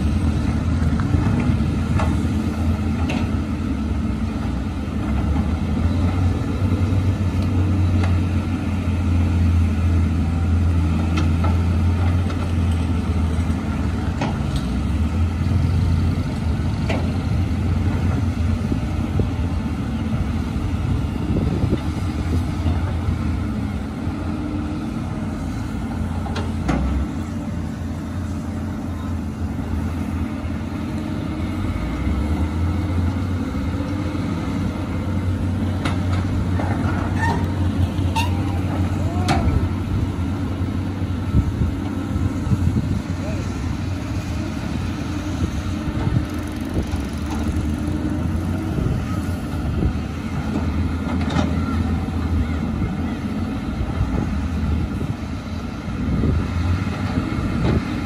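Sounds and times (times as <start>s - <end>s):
diesel engines rumbling: 0.0s - 58.0s.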